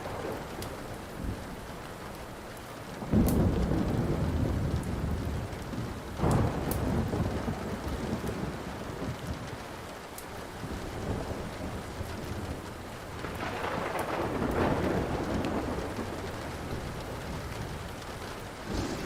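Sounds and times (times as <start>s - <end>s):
thunder rumbling: 0.0s - 1.9s, 3.0s - 9.8s, 10.4s - 19.0s
steady rain: 0.0s - 19.0s
wood fire crackling: 0.0s - 19.0s.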